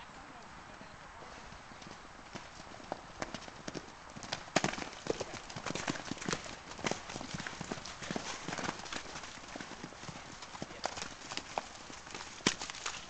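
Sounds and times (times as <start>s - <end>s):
horses galloping over dirt: 0.0s - 13.0s.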